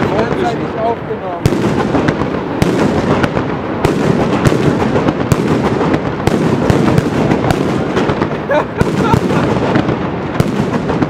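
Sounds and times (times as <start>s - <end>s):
firecracker barrage rattle: 0.0s - 11.0s
salute shell blasts: 1.5s - 11.0s.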